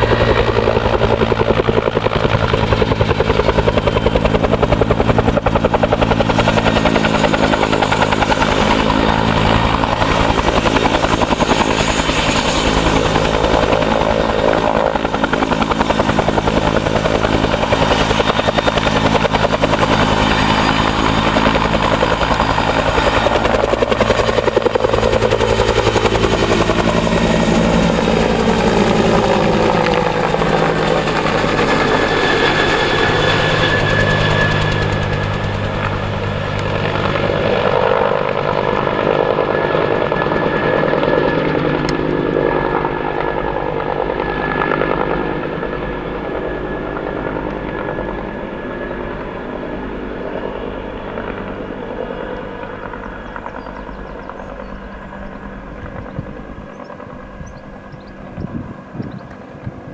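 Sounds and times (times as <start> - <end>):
helicopter rotor beat: 0.0 - 59.9
helicopter turbine whine: 0.0 - 59.9.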